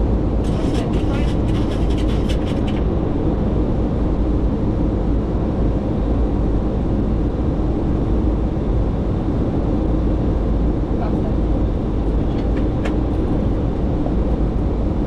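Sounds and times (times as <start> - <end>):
jet cockpit engine drone: 0.0 - 15.0.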